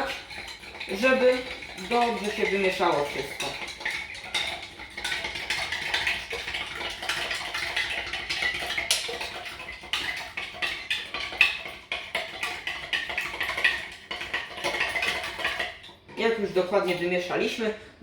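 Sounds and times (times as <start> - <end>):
stirrer clinking against container: 0.0 - 17.7.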